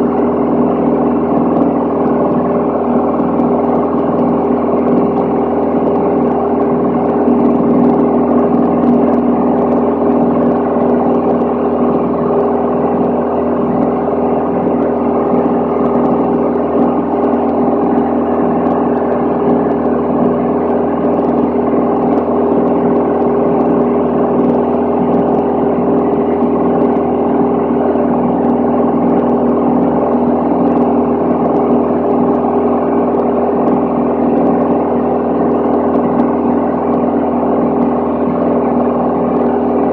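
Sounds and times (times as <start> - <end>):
air noise: 0.0 - 39.9
propeller aircraft engine droning: 0.0 - 39.9.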